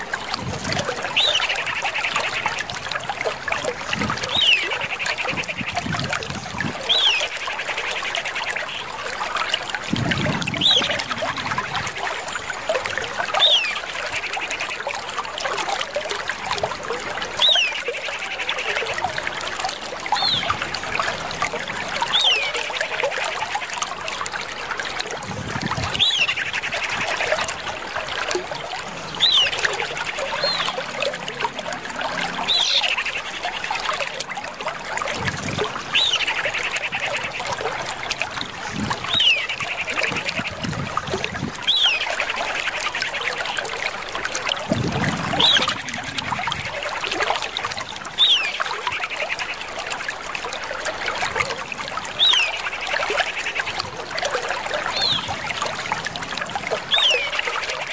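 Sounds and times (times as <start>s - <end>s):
trickling water: 0.0s - 57.9s.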